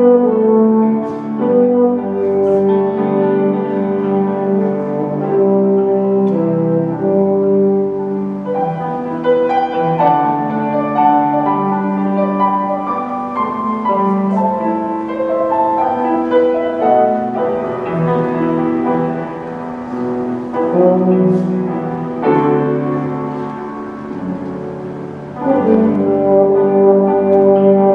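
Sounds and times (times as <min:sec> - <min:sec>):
piano: 0:00.0 - 0:27.9.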